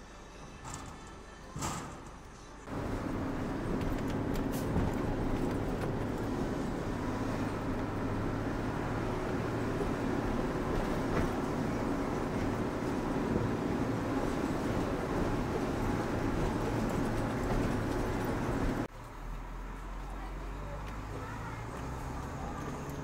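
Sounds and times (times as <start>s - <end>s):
truck engine and road noise: 0.0s - 23.0s.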